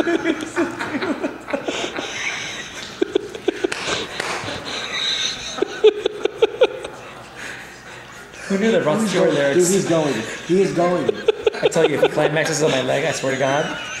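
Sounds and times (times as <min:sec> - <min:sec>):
people chuckling and laughing: 0:00.0 - 0:14.0.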